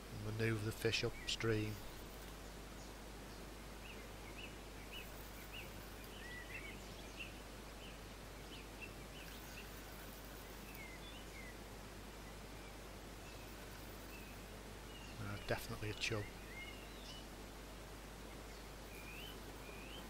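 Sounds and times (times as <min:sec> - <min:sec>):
steady outdoor hiss: 0:00.0 - 0:20.0
bird chirping: 0:00.4 - 0:11.6, 0:12.2 - 0:17.4, 0:18.2 - 0:20.0.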